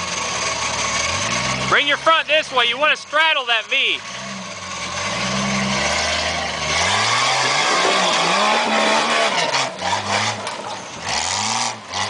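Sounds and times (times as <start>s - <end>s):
suv engine revving: 0.0s - 12.0s.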